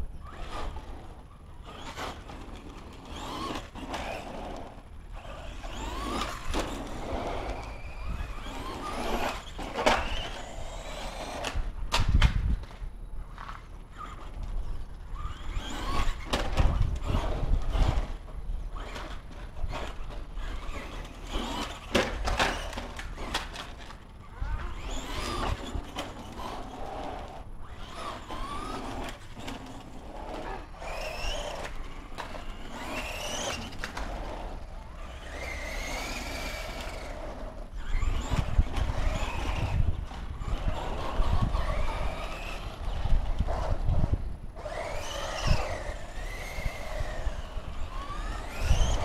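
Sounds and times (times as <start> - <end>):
toy truck motors whining: 0.0 - 11.9, 12.7 - 49.0.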